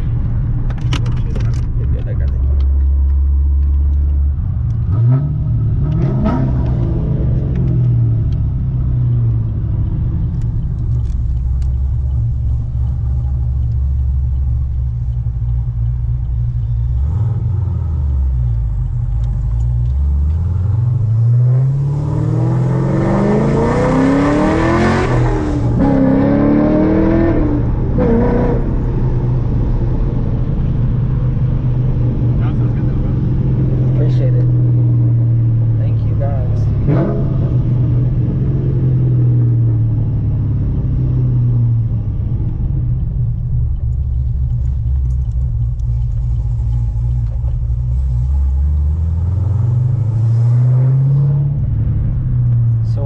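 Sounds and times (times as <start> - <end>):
car engine revving: 0.0 - 53.0
engine pulling through gear shifts: 0.0 - 53.0.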